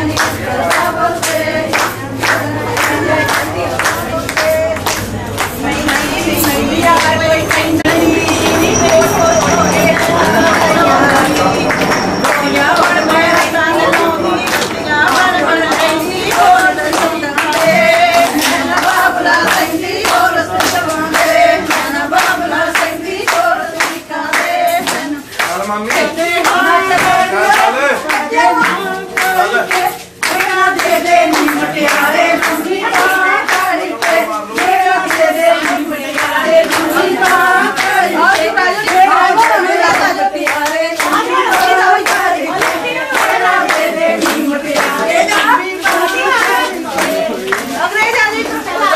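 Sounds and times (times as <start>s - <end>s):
hands clapping: 0.0s - 48.9s
women singing together: 0.0s - 48.9s.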